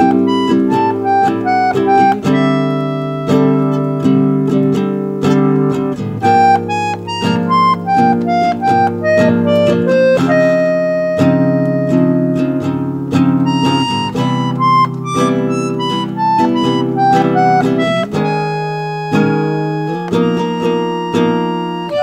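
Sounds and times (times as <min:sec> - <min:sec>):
slow instrumental music: 0:00.0 - 0:22.0.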